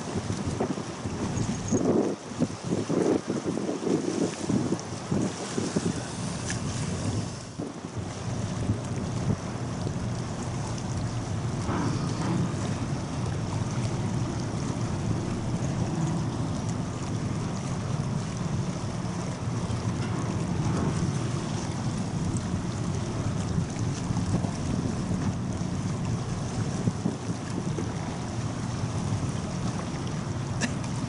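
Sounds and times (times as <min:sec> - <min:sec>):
rushing water: 0:00.0 - 0:31.0
ship low rumble: 0:00.0 - 0:31.0
wind buffeting microphone: 0:00.0 - 0:31.0.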